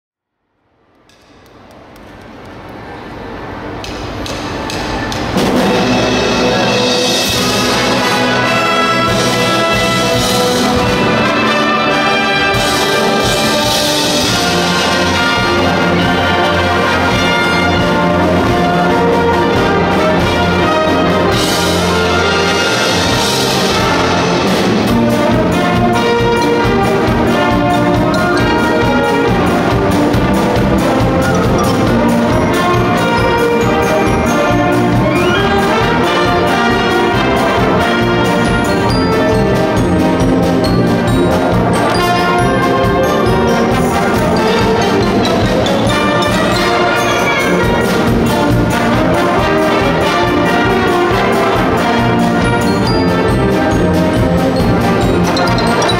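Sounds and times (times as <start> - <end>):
wind band playing: 3.2 - 55.9
drums steady beat: 4.2 - 55.9.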